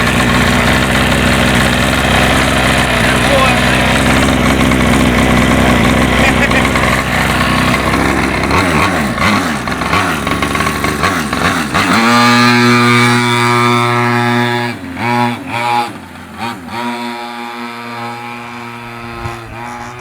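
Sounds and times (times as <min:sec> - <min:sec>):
small two-stroke engines racing past: 0:00.0 - 0:20.0.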